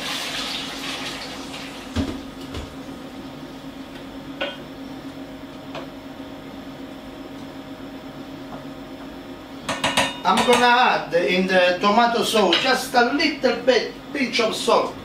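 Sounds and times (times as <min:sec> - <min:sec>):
steady low hum: 0:01.8 - 0:15.0.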